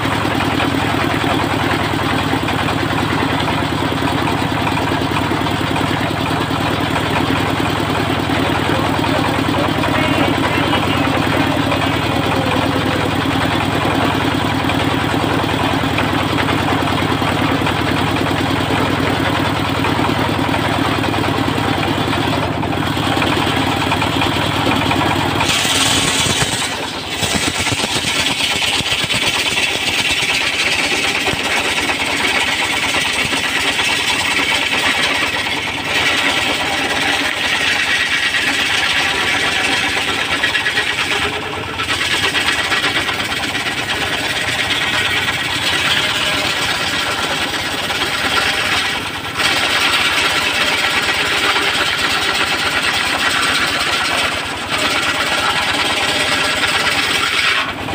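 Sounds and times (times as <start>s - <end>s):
engine humming: 0.0s - 57.9s.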